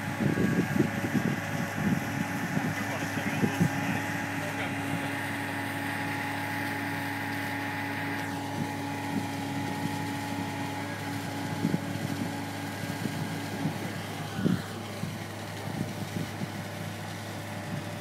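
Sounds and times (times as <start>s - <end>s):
diesel engine and pump drone: 0.0s - 18.0s
thin steady whine: 0.0s - 18.0s.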